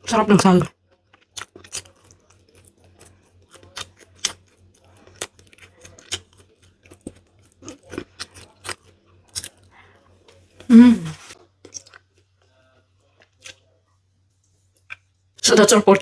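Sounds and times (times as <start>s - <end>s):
person chewing food: 0.7s - 13.7s, 14.3s - 15.4s.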